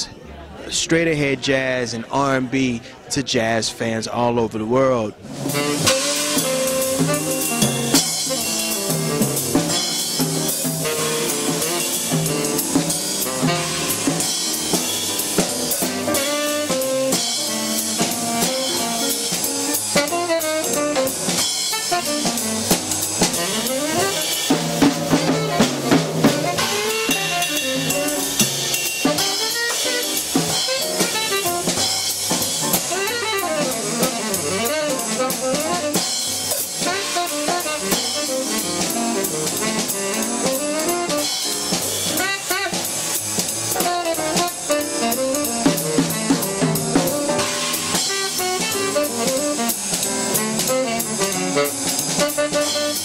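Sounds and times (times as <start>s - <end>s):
upright bass: 0.0s - 41.4s, 43.8s - 53.0s
drum kit with cymbals: 5.2s - 53.0s
tenor saxophone melody: 5.4s - 53.0s.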